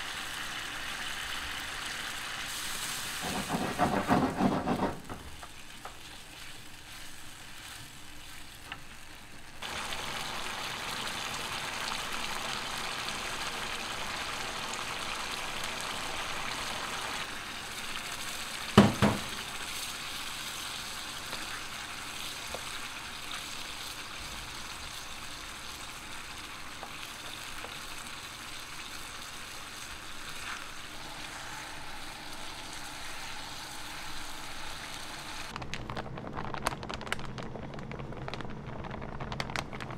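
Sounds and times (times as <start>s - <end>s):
food sizzling in a hot pan: 0.0s - 35.5s.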